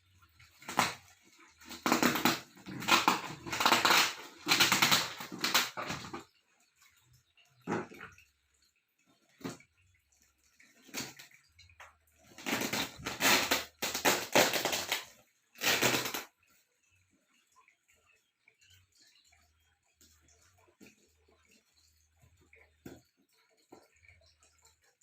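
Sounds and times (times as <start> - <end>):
water splashing and pouring: 0.0 - 25.0.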